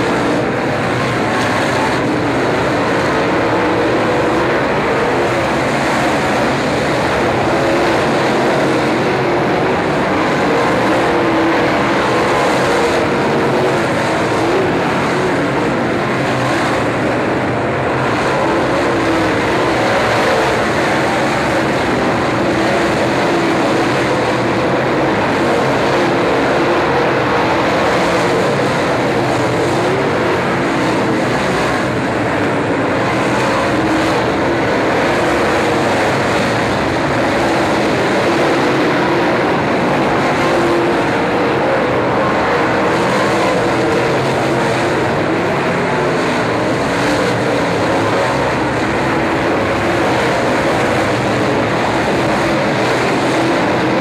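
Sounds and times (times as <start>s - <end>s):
race car engines roaring: 0.0s - 54.0s.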